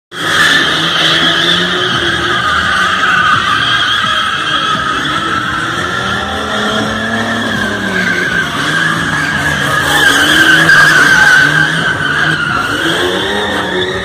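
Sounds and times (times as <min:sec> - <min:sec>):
car engine revving: 0:00.1 - 0:14.0
tyres squealing: 0:00.2 - 0:14.0.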